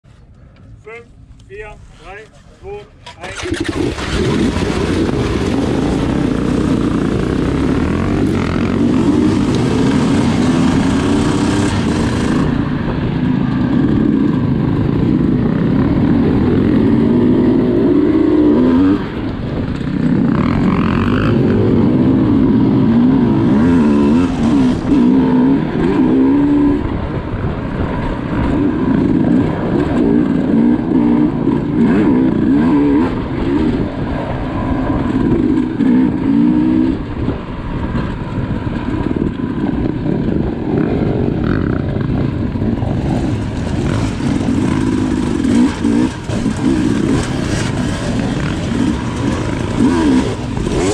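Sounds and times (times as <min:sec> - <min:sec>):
motorcycle engine revving: 0:03.1 - 0:50.9.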